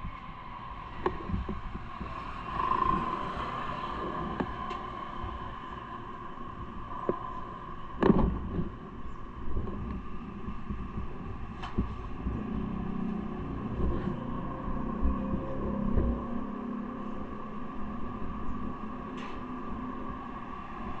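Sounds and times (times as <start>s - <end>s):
vehicle rumble with hum: 0.0s - 21.0s.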